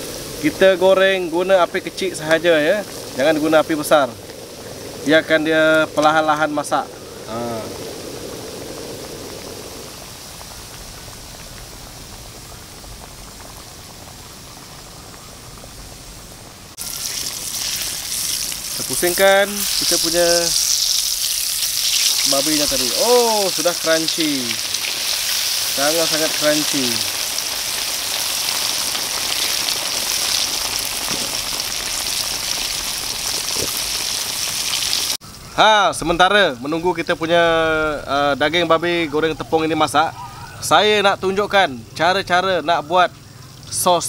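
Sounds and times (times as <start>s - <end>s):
meat frying in oil: 0.0s - 35.2s, 40.7s - 43.8s.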